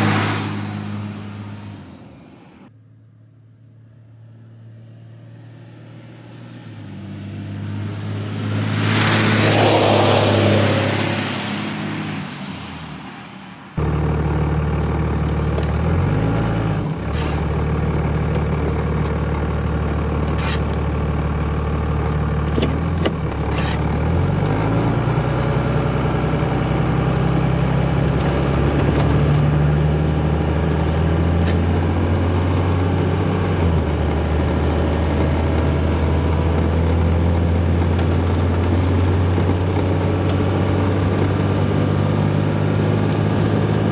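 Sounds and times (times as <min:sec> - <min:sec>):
diesel pickup passing by: 0:00.0 - 0:02.7, 0:03.5 - 0:43.9
loud engine drone inside cab: 0:00.0 - 0:43.9.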